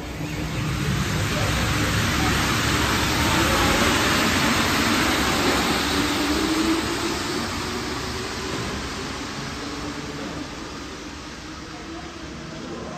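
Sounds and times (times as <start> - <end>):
metro train running: 0.0 - 12.9.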